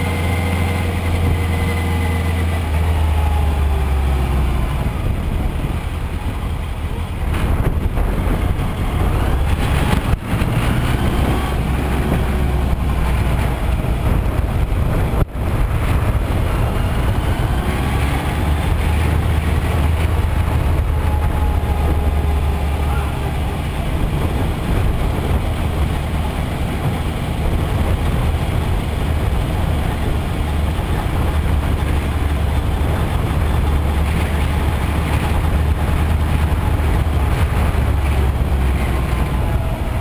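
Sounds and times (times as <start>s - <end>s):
motorcycle engine running: 0.0s - 40.0s
wind noise: 0.0s - 40.0s.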